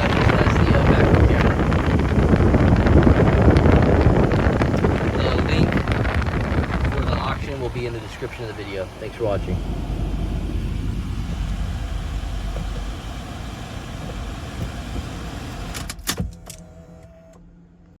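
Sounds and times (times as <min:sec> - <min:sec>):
faint hum: 0:00.0 - 0:15.7
car engine idling: 0:00.0 - 0:17.0.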